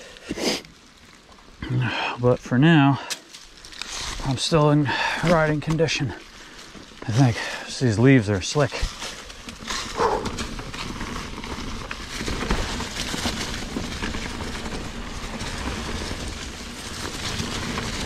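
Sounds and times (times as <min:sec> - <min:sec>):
bike rattling: 0:00.0 - 0:18.0
bike tyres on gravel and leaves: 0:00.0 - 0:18.0.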